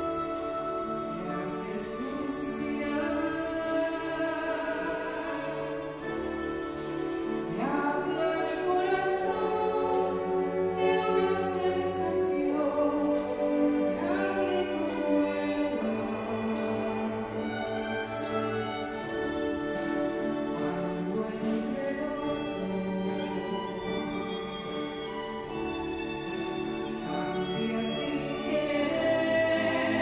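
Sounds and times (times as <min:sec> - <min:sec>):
orchestral strings: 0:00.0 - 0:30.0
woman singing classical style: 0:00.0 - 0:30.0.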